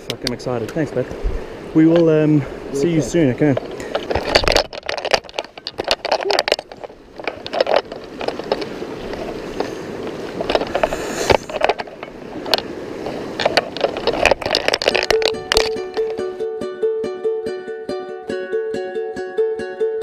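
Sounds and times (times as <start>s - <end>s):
legs splashing through river rapids: 0.0s - 16.2s.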